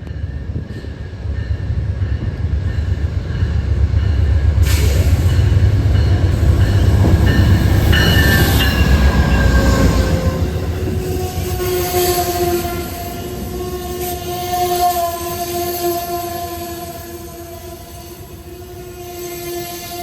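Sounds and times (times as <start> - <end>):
diesel locomotive engine rumble: 0.0 - 19.1
wheels hissing on rail: 3.4 - 20.0.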